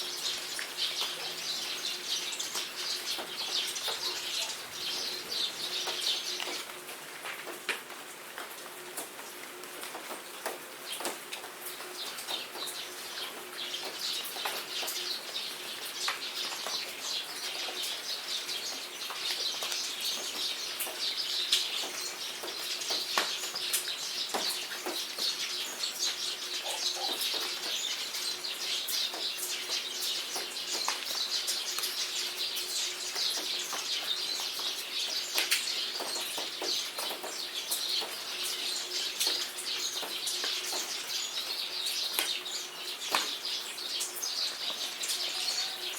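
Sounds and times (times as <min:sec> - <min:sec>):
birds chirping: 0:00.0 - 0:06.8, 0:10.8 - 0:45.9
steady rain falling: 0:00.0 - 0:45.9.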